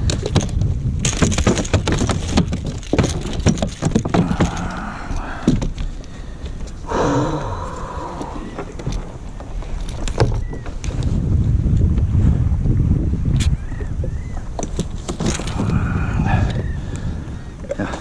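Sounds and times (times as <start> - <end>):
knocks and rattles on a kayak: 0.0 - 6.8, 8.1 - 18.0
water noise: 0.0 - 18.0
wind: 0.0 - 18.0.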